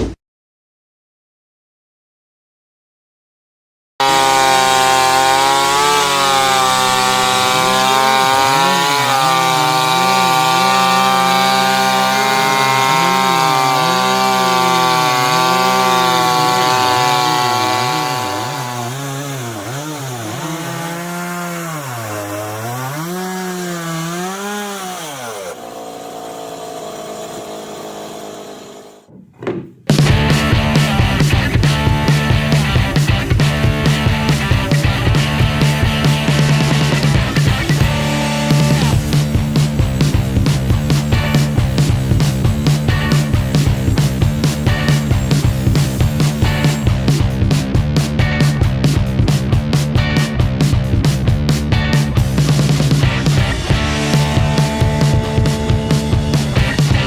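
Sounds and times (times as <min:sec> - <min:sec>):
chainsaw cutting wood: 0:04.0 - 0:29.2, 0:29.9 - 0:57.0.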